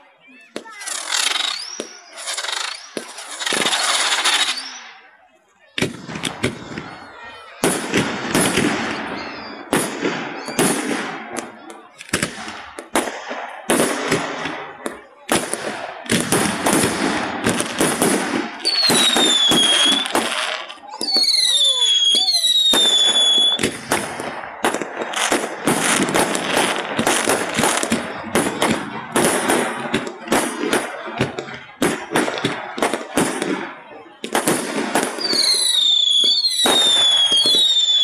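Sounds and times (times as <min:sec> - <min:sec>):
fireworks bangs and crackle: 0:00.1 - 0:05.1, 0:05.7 - 0:38.0
whistling fireworks: 0:00.1 - 0:38.0.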